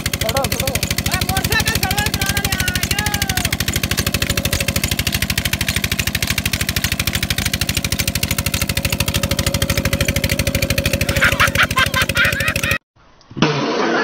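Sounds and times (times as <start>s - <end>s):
diesel engine chugging: 0.0s - 12.8s.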